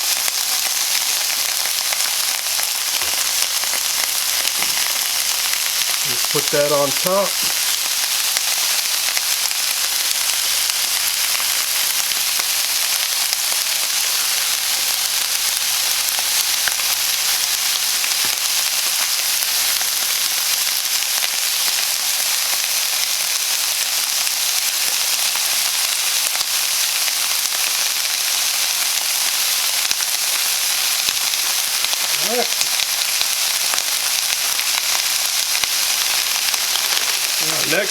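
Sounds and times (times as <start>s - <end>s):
chicken sizzling in a frying pan: 0.0s - 37.9s.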